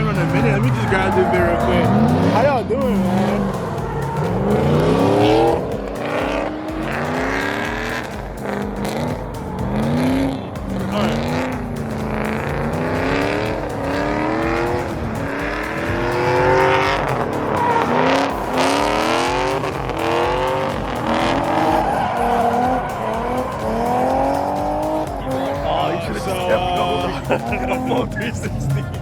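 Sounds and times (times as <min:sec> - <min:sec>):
car engine revving hard: 0:00.0 - 0:29.0
tires squealing: 0:00.0 - 0:29.0.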